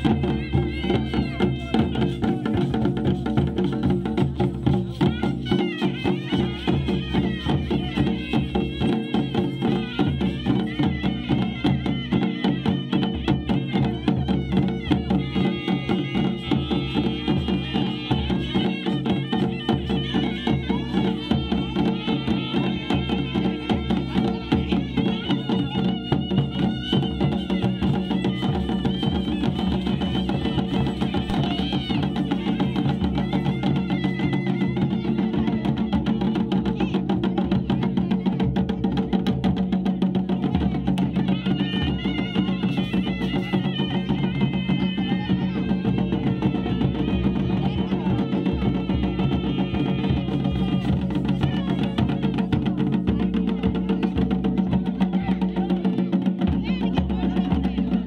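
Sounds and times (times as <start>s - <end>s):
drums beating: 0.0s - 58.0s.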